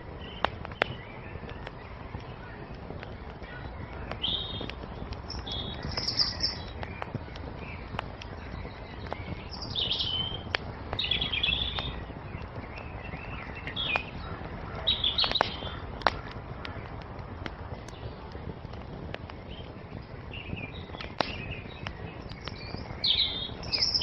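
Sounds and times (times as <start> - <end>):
songbirds chirping: 0.0 - 24.0
wood fire crackling and popping: 0.0 - 24.0.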